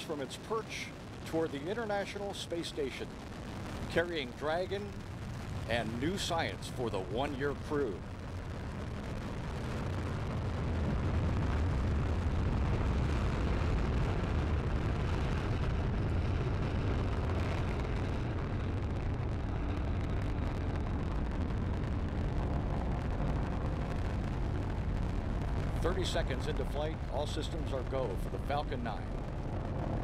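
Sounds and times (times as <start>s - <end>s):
rocket engines roaring: 0.0s - 30.0s.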